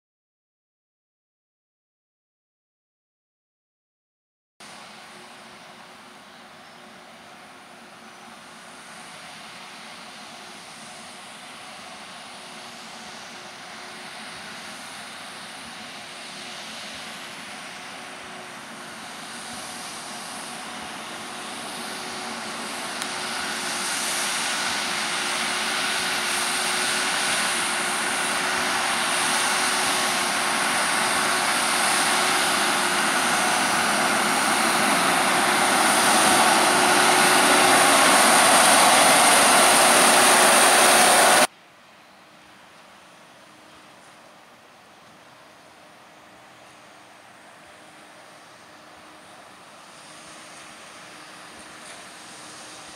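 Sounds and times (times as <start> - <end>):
tractor and baler running: 4.6 - 41.5, 42.5 - 52.9.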